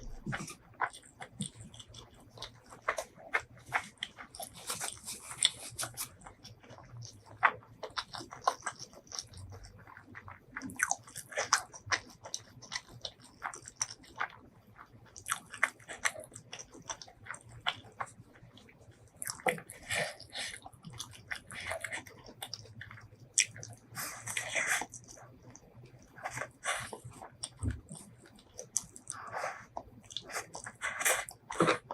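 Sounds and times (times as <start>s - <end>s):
crisp crunchy chewing: 0.0s - 31.9s.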